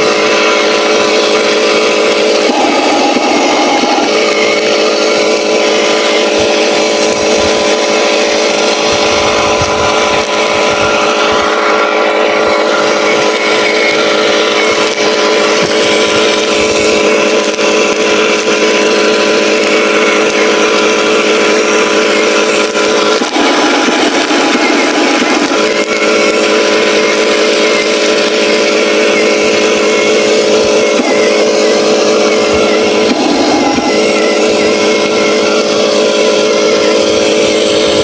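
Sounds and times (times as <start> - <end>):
simulated truck engine sound: 0.0 - 38.0.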